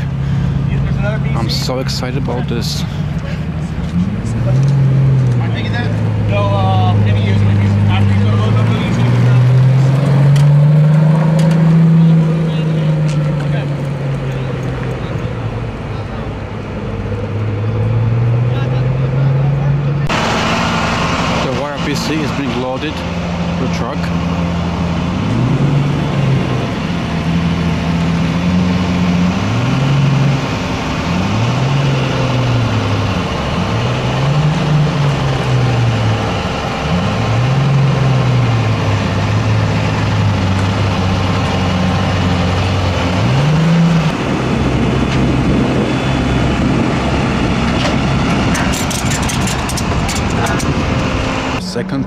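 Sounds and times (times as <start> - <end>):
car engine revving and idling: 0.0 - 52.0.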